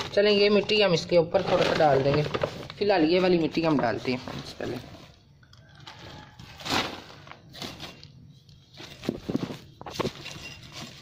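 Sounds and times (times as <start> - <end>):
plastic sack rustling: 0.0 - 11.0.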